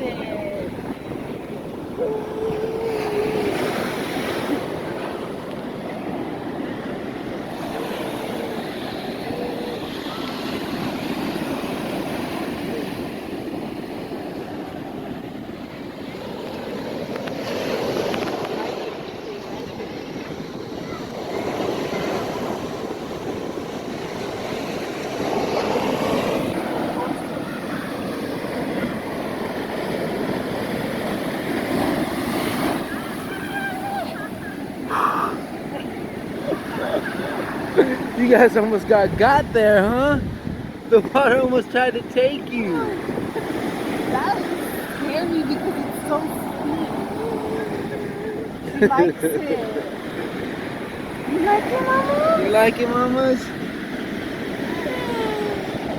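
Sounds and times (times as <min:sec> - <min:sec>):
ocean surf washing up beach: 0:00.0 - 0:55.9
wind buffeting microphone: 0:00.0 - 0:55.9.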